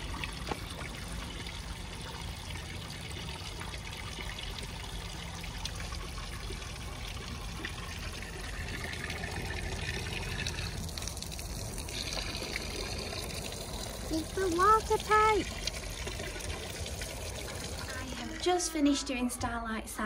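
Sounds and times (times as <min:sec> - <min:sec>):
water running from a hose: 0:00.0 - 0:18.9.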